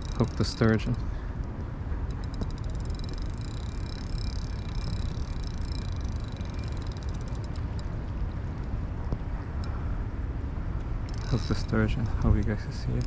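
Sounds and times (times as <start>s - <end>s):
fishing reel clicking: 0.0s - 8.8s, 10.9s - 13.0s
wind rumbling on microphone: 0.0s - 13.0s.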